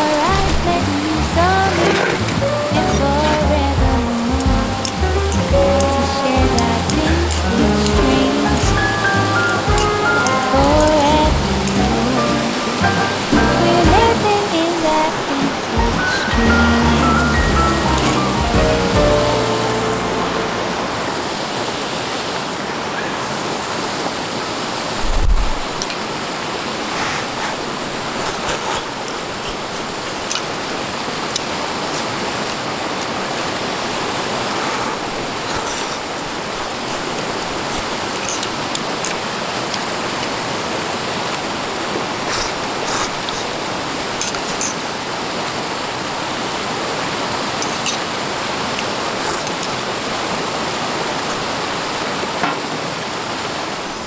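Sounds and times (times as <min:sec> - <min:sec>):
river water rushing: 0:00.0 - 0:25.0, 0:25.8 - 0:54.0.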